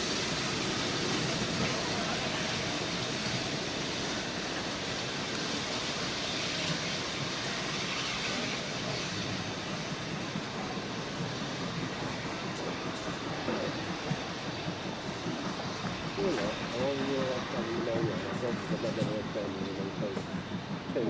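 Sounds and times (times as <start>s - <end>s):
train rolling along track: 0.0s - 21.0s.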